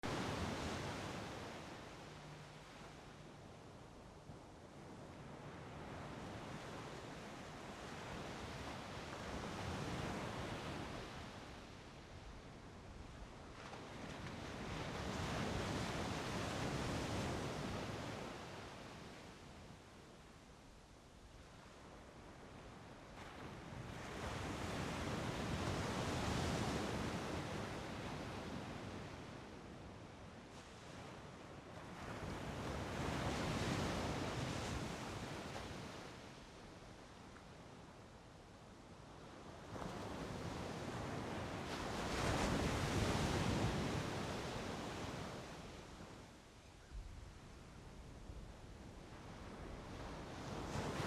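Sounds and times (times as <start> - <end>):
water at the shore: 0.0 - 51.0
wind: 0.0 - 51.0.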